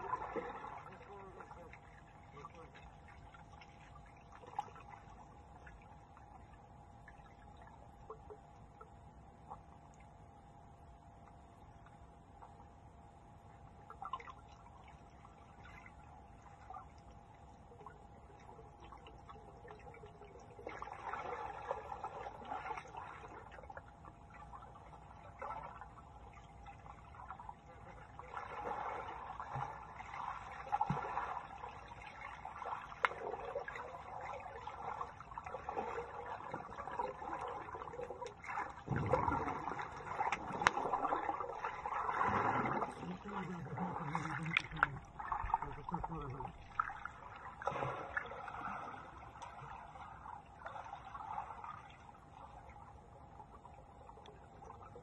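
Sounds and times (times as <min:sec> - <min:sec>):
underwater splashing and bubbling: 0:00.0 - 0:10.5, 0:11.2 - 0:55.0
faint steady hum: 0:00.0 - 0:55.0.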